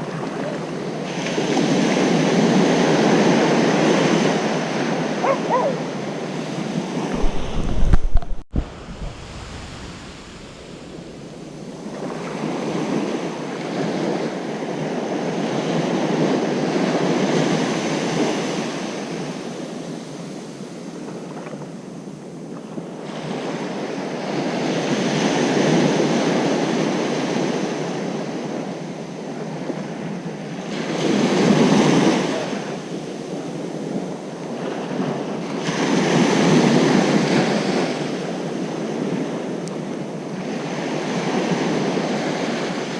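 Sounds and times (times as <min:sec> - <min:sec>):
waves breaking on a beach: 0:00.0 - 0:42.9.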